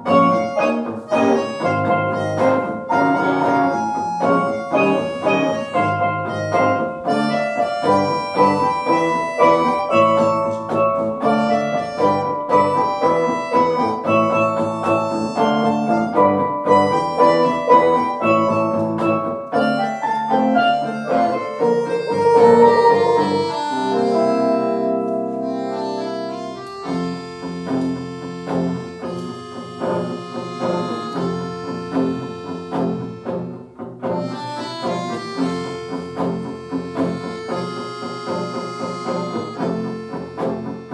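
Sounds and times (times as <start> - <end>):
instrumental music: 0.0 - 40.9.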